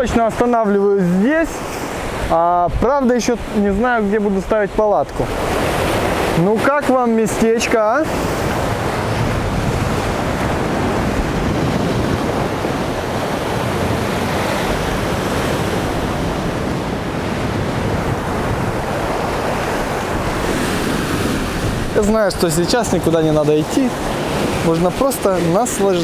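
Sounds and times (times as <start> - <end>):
sea surf washing onto shore: 0.0 - 26.0
wind buffeting microphone: 0.0 - 26.0.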